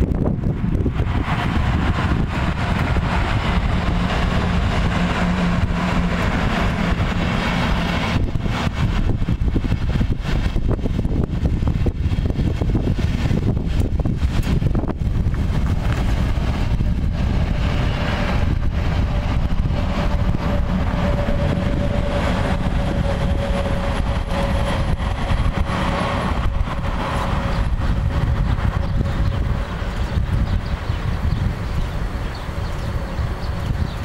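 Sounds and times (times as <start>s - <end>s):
train rolling on rails: 0.0s - 34.0s.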